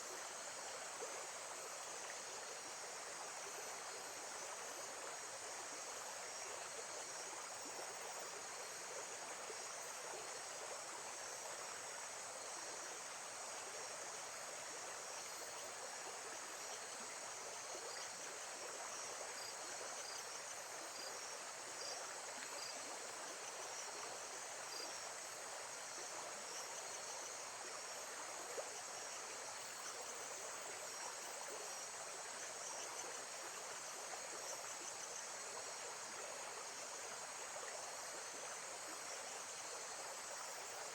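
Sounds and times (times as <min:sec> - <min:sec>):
faint insect chirping: 0:00.0 - 0:40.9.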